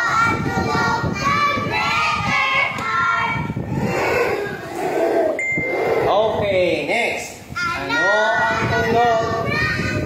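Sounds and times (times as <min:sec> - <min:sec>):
children chanting together: 0:00.0 - 0:06.2, 0:07.6 - 0:10.0.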